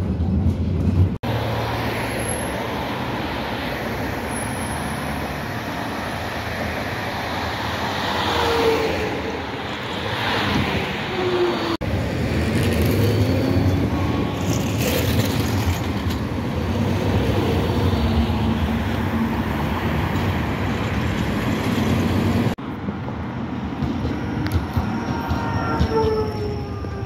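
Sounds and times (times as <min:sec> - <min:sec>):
road traffic: 0:00.0 - 0:27.0
tram wheels rumbling on rail: 0:00.0 - 0:27.0.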